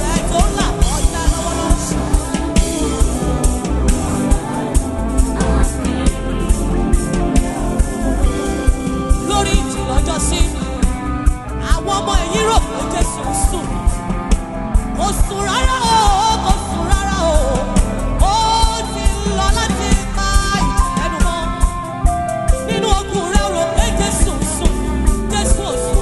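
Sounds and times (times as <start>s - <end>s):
gliding lead melody: 0.0s - 26.0s
gospel band playing: 0.0s - 26.0s.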